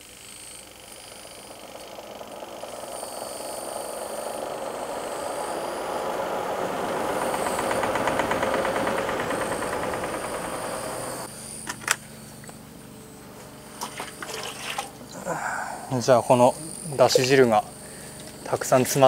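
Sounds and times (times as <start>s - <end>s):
spin-dryer motor and drum hum: 0.0s - 19.0s.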